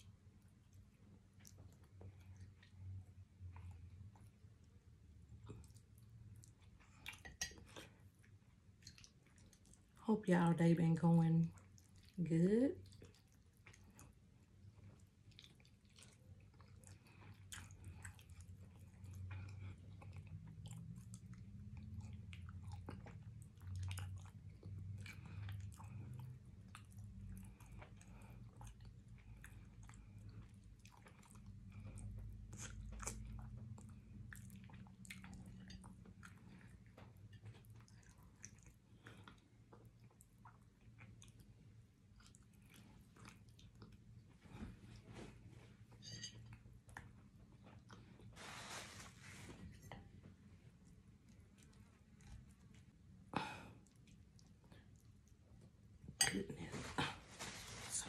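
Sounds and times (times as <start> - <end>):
person chewing: 5.4 - 10.0, 12.8 - 48.8, 49.4 - 55.7.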